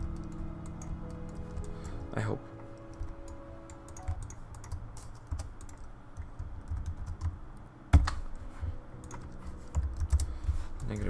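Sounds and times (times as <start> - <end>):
computer keyboard typing: 0.0 - 2.2, 2.8 - 8.2, 9.0 - 11.0.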